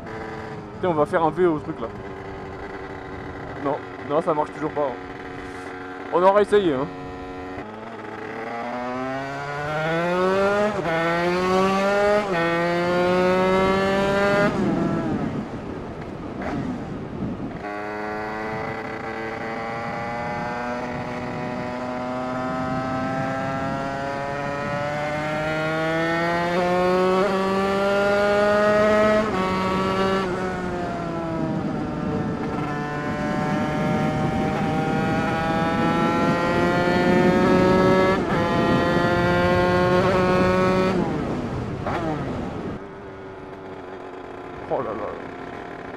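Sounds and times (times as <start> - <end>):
two-stroke engine revving through gears: 0.0 - 15.1, 17.6 - 45.9.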